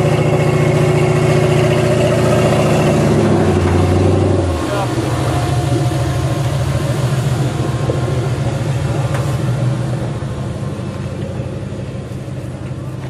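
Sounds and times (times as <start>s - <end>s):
vehicle engine at low revs: 0.0s - 13.0s.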